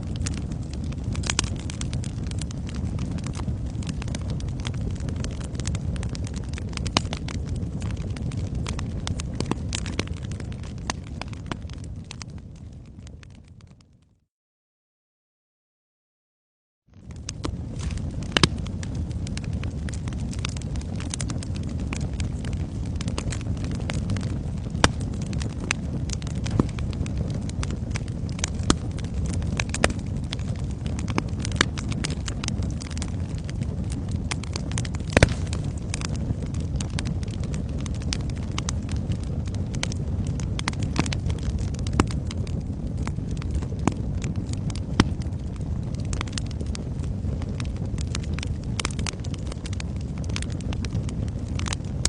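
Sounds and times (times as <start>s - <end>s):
fire crackling in fireplace: 0.0s - 14.1s, 16.9s - 52.0s.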